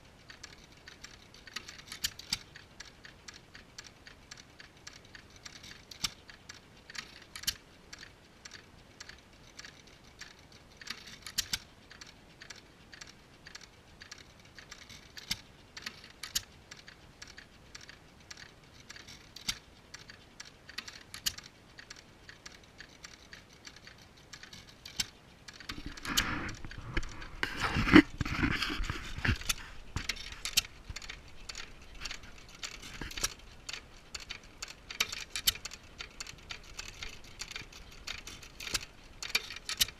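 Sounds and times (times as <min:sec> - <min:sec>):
old engines clicking and ticking: 0:00.0 - 0:39.9.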